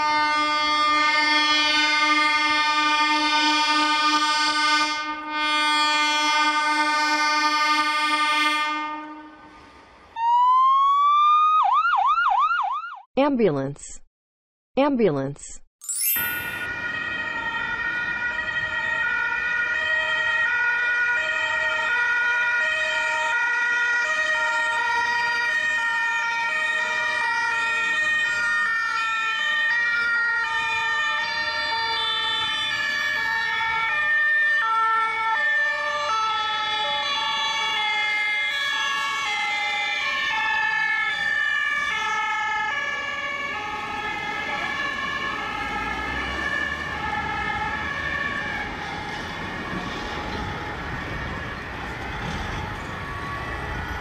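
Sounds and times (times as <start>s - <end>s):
two-tone ambulance sirens: 0.0s - 13.1s, 16.2s - 54.0s.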